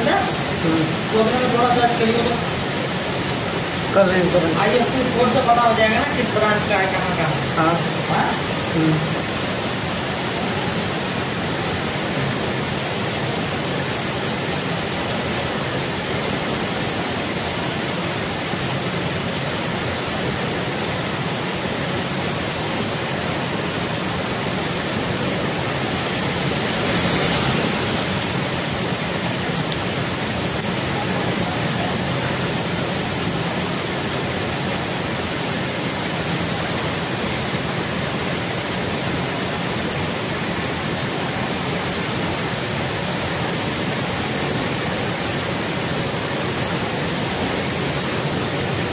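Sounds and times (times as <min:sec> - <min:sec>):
heavy rain on wet road: 0:00.0 - 0:48.9.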